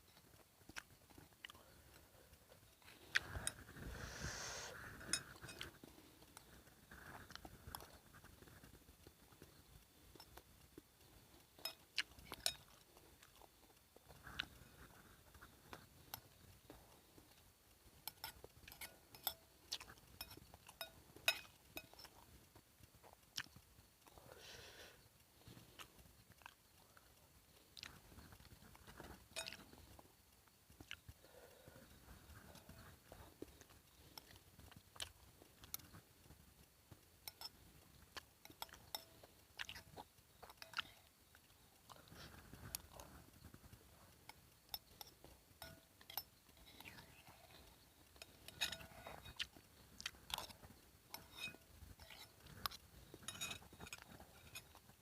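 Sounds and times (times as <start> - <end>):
person chewing: 0.2 - 17.4, 18.0 - 55.0.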